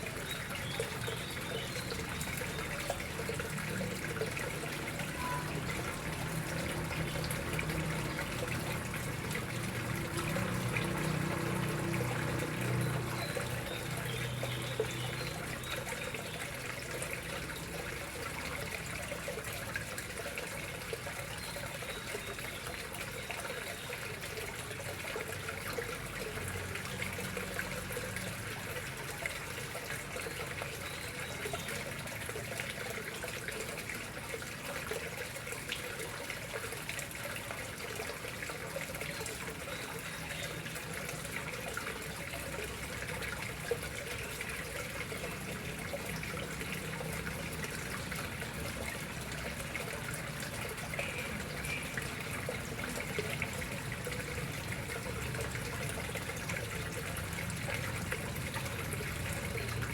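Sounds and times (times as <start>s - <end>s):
water trickling into a pond: 0.0s - 59.9s.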